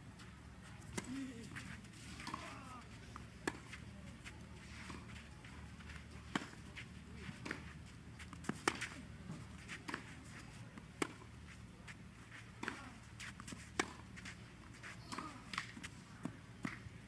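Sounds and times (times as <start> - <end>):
low steady venue hum: 0.0 - 17.0.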